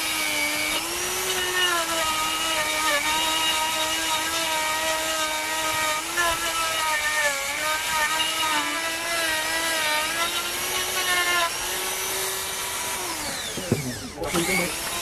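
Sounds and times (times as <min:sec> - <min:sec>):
power tool motor whining: 0:00.0 - 0:15.0.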